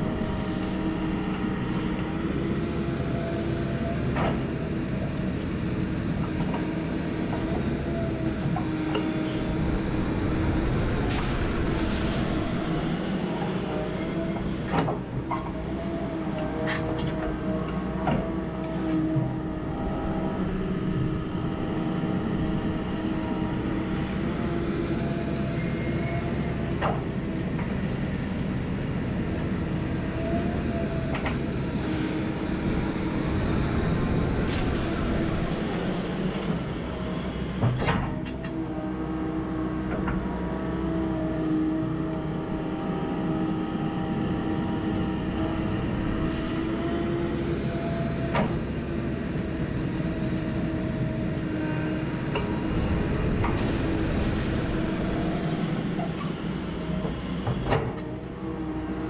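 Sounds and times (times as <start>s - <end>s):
diesel engine running with whine: 0.0s - 59.0s.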